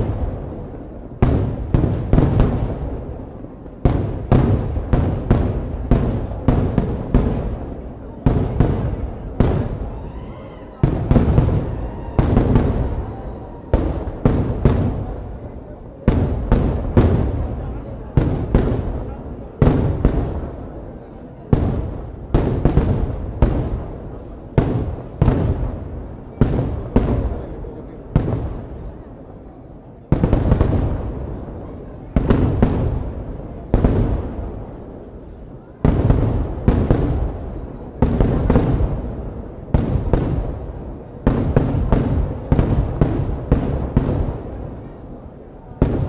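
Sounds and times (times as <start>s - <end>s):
fireworks explosions rumbling: 0.0s - 46.0s.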